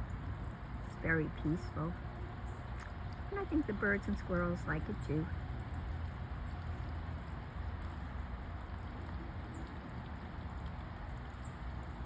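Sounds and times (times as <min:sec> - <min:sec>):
garden fountain trickling: 0:00.0 - 0:12.0.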